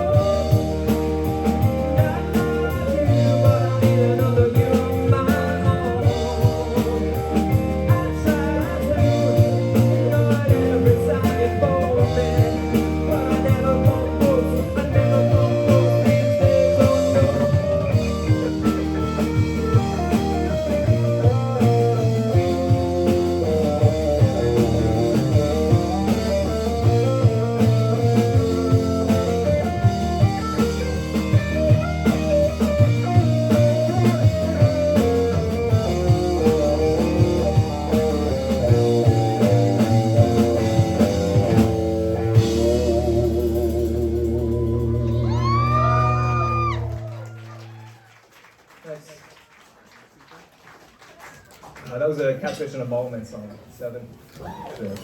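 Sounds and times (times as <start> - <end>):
bass guitar: 0.0 - 48.0
drum kit: 0.0 - 48.0
electric guitars: 0.0 - 48.0.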